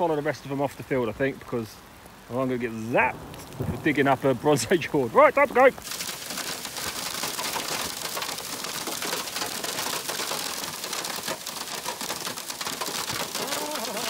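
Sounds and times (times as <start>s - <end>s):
hail pelting car windscreen: 2.6s - 14.0s.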